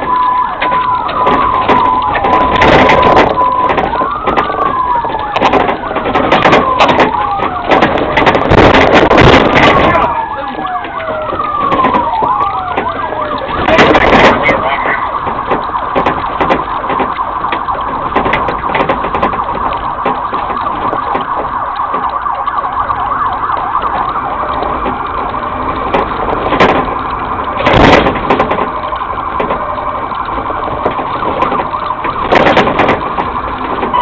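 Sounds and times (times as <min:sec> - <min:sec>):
police siren: 0:00.0 - 0:34.0.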